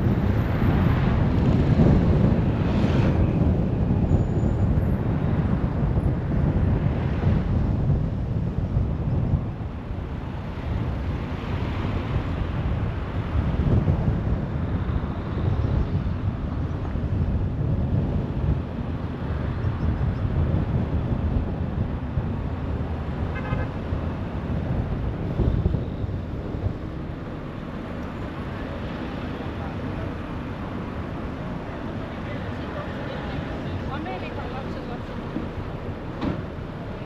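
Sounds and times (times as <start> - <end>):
car engine and tyre rumble: 0.0 - 37.0
wind buffeting microphone: 0.0 - 37.0.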